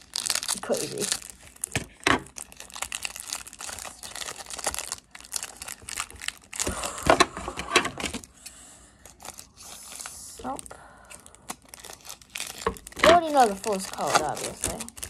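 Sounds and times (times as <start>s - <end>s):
plastic wrapping crinkling: 0.0s - 8.4s, 9.0s - 15.0s.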